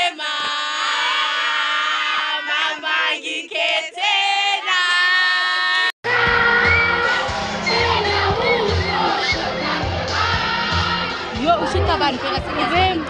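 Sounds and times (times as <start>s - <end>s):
girls singing together: 0.0s - 11.4s.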